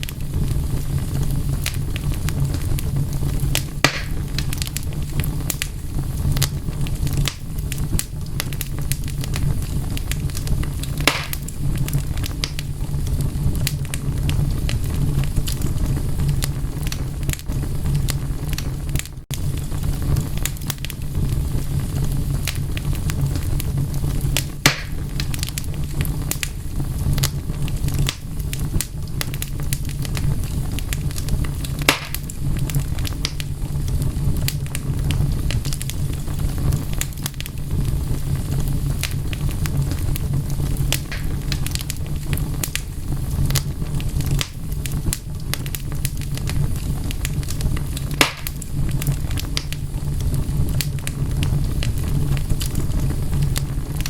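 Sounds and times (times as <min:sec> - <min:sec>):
loud fire pops: 0:00.0 - 0:54.0
wood fire crackling: 0:00.0 - 0:54.0.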